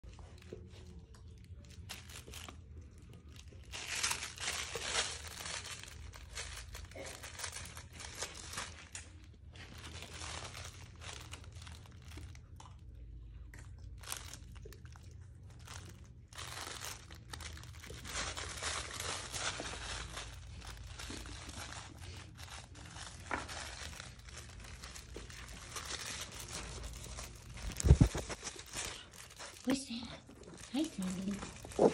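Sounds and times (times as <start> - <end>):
plush toys rustling and crinkling: 0.0 - 13.0, 13.6 - 31.9.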